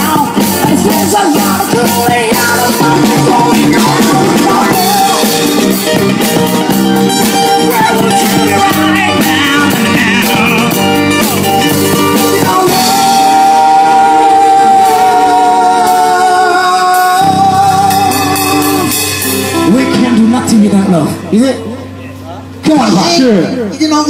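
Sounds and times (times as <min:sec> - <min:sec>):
man singing: 0:00.0 - 0:06.4, 0:07.1 - 0:21.2
acoustic guitar: 0:00.0 - 0:22.9
electric bass: 0:00.0 - 0:24.0.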